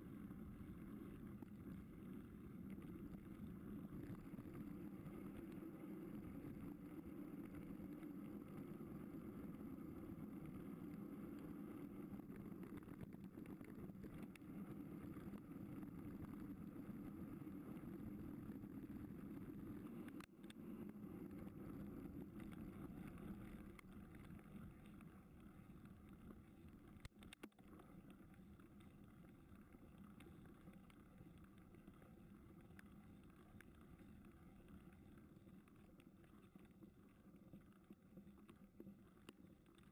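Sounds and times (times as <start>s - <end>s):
bike rolling on gravel: 0.3s - 39.9s.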